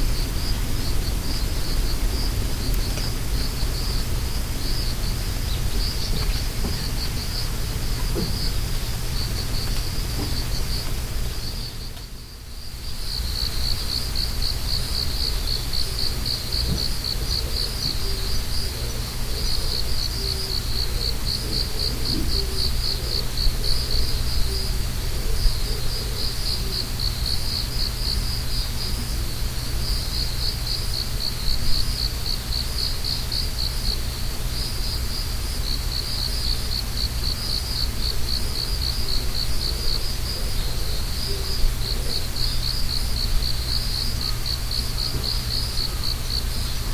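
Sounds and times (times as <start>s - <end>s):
insects trilling: 0.0s - 46.9s
low outdoor rumble: 0.0s - 46.9s.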